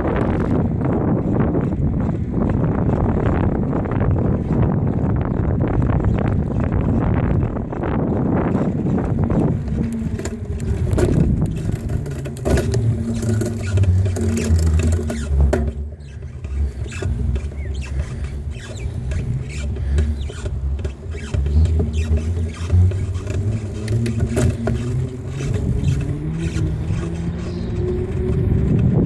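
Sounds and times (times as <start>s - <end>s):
bicycle tyre rumble: 0.0s - 29.0s
bike rattling and squeaking: 0.0s - 29.0s
wind on microphone: 0.0s - 29.0s.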